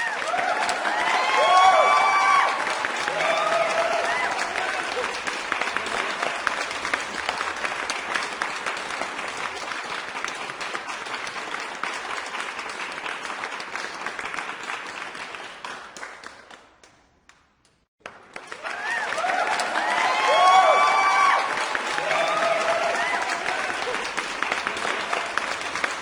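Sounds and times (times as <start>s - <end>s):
crowd applauding: 0.0s - 16.6s, 18.0s - 26.0s.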